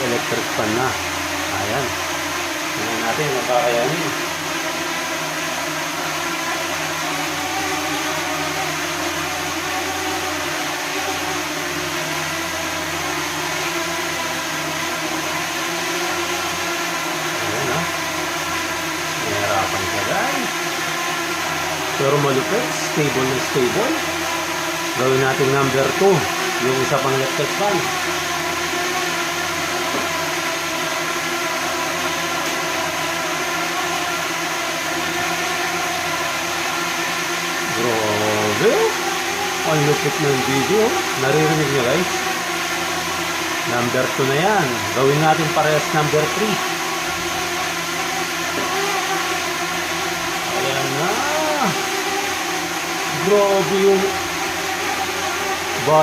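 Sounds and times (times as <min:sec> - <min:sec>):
drone propellers whirring: 0:00.0 - 0:56.0
electric fans blowing: 0:00.0 - 0:56.0.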